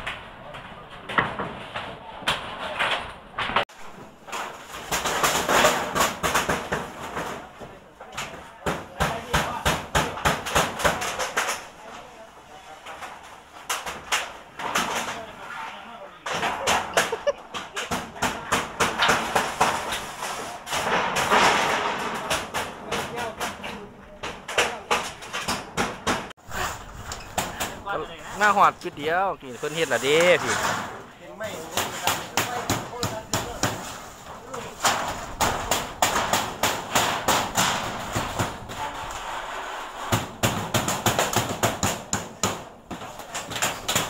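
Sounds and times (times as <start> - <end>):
hammering and clatter: 0.0 - 11.8, 12.8 - 15.2, 16.2 - 28.7, 29.7 - 44.0.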